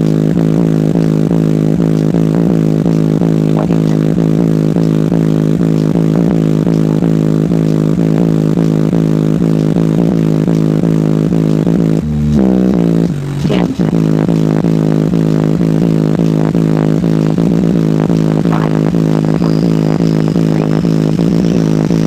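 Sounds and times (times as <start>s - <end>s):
loud pulsing buzzing bass: 0.0s - 22.0s.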